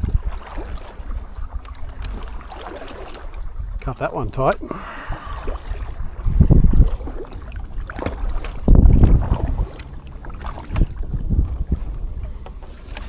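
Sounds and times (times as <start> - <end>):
water lapping against kayak hull: 0.0 - 13.0
wind gusting on microphone: 0.0 - 13.0.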